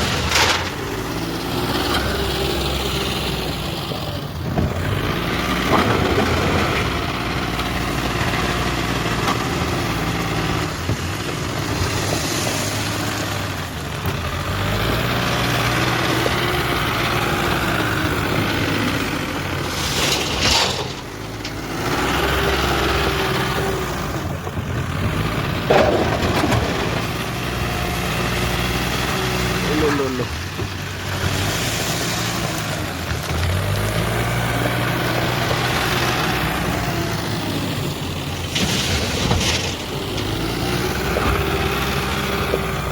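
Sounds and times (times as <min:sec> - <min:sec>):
diesel engine revving: 0:00.0 - 0:42.9.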